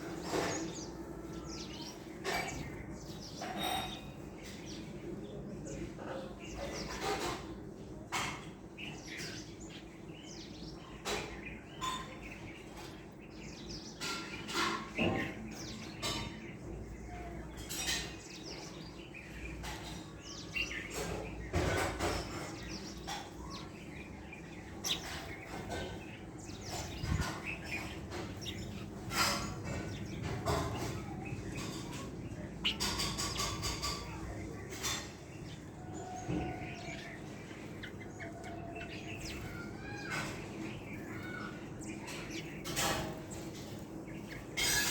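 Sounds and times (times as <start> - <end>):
wild birds chirping and calling: 0.0 - 44.9.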